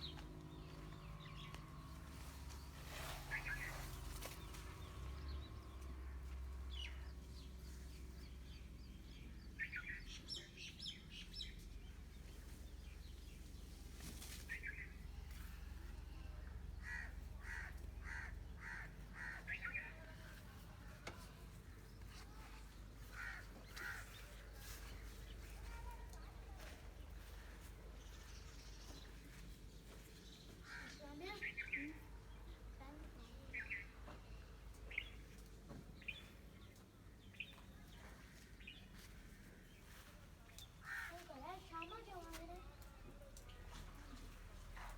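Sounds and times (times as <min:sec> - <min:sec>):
birds calling: 0:00.0 - 0:20.6, 0:21.2 - 0:42.5.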